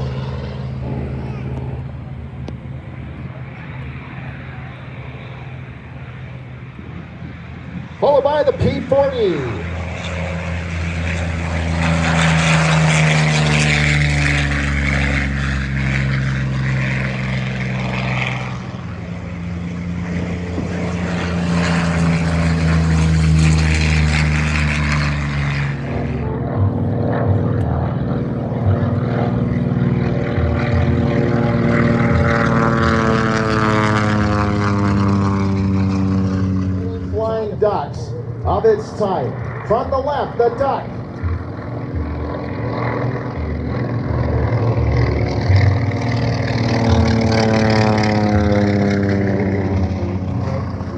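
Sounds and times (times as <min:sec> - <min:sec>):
propeller planes flying past: 0:00.0 - 0:50.9.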